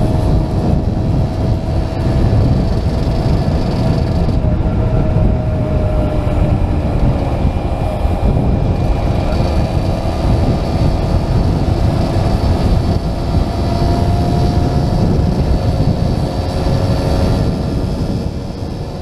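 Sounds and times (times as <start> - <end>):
motorcycle engine running: 0.0 - 19.0
wind rumble: 0.0 - 19.0.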